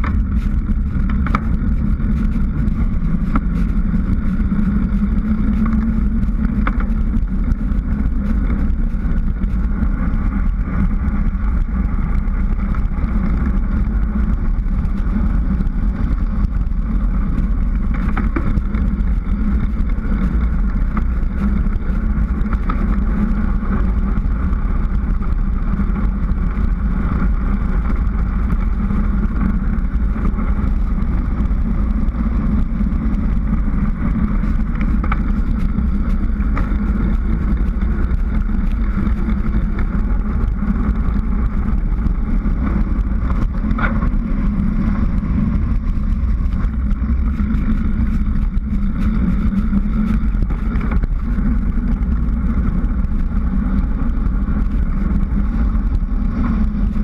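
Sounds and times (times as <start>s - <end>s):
bicycle tyre noise on asphalt: 0.0s - 57.0s
wind rushing on microphone: 0.0s - 57.0s.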